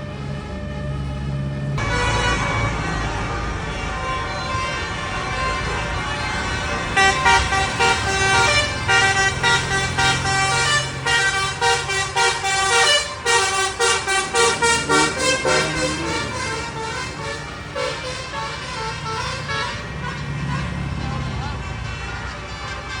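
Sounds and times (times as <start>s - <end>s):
bus engine running low: 0.0s - 23.0s
bus melody horn playing tune: 0.0s - 23.0s.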